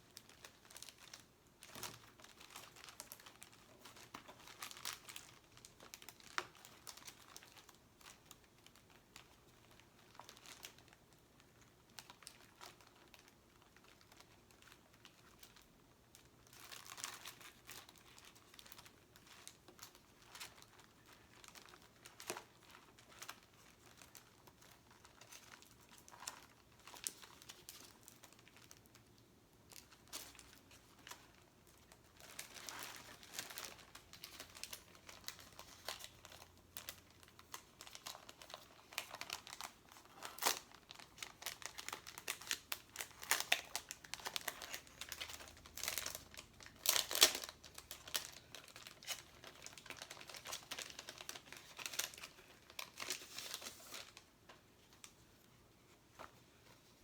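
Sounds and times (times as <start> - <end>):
sticker sheets crinkling: 0.0 - 57.0.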